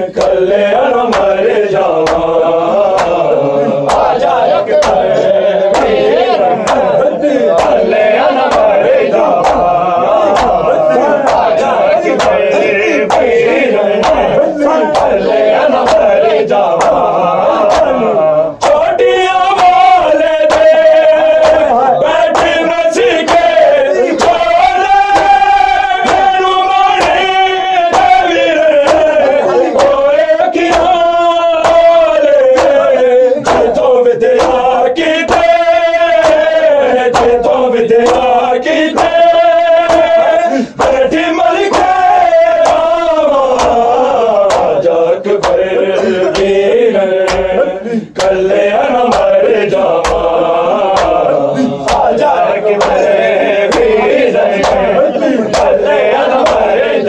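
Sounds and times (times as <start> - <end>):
men chanting: 0.0 - 57.0
rhythmic sharp strikes: 0.0 - 57.0.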